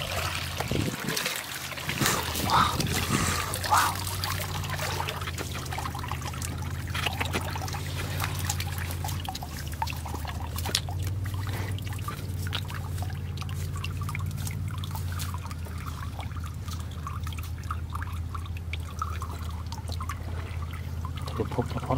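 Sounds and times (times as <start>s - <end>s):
steady low hum: 0.0s - 21.8s
water trickling and dripping: 0.0s - 21.9s.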